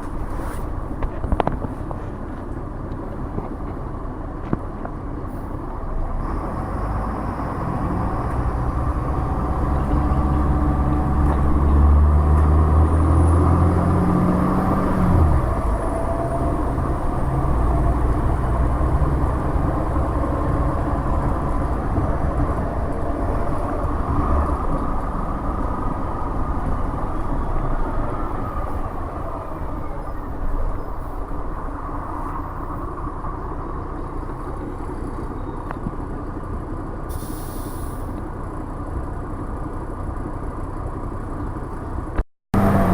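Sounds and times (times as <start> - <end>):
bus diesel engine: 0.0 - 42.9
road and cabin noise: 0.0 - 42.9.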